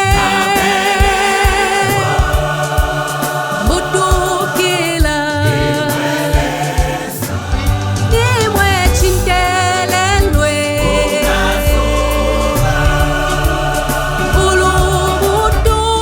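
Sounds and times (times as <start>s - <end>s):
bass and drums: 0.0s - 4.4s, 5.0s - 16.0s
choir singing gospel: 0.0s - 16.0s
solo voice singing: 0.0s - 16.0s.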